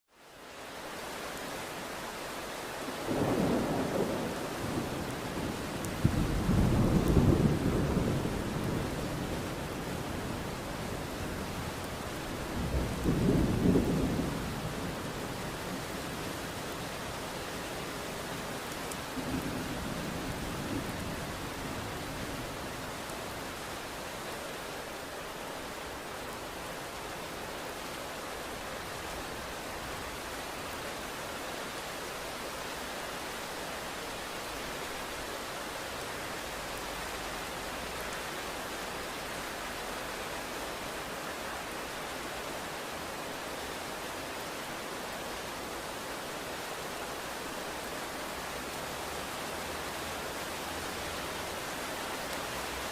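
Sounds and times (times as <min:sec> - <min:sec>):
steady rain: 0:00.1 - 0:52.9.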